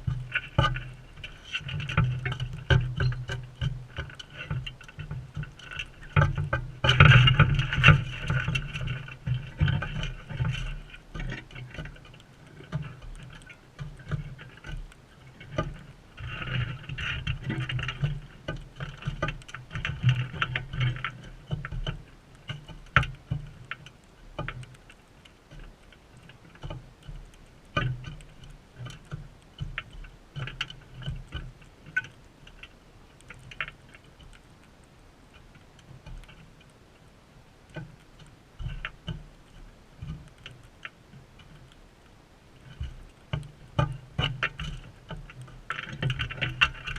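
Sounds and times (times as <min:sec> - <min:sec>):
birds pecking at a feeder: 0:00.0 - 0:46.9.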